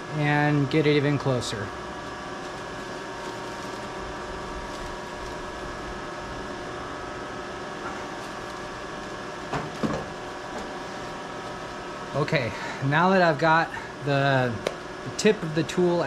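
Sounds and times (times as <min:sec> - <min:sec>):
milling machine electrical hum: 0:00.0 - 0:16.0.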